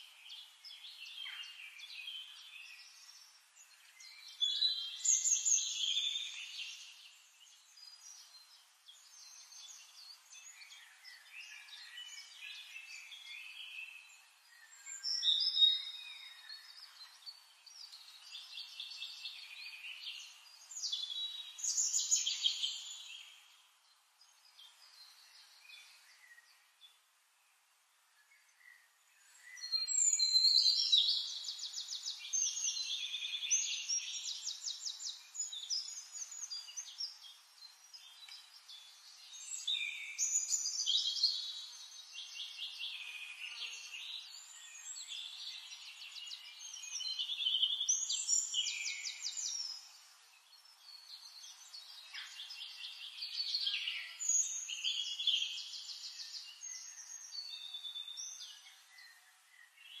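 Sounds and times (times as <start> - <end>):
songbirds trilling and chirping: 0.0 - 60.0.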